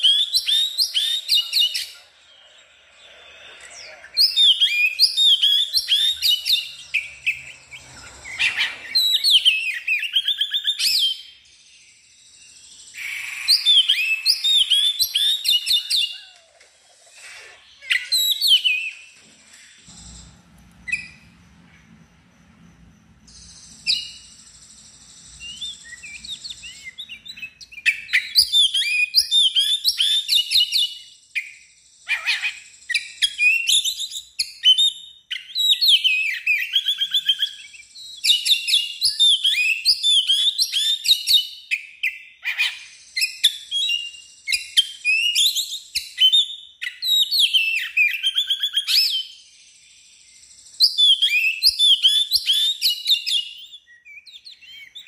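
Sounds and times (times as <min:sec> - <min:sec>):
bird singing chirps and trills: 0:00.0 - 0:20.2, 0:20.8 - 0:55.0.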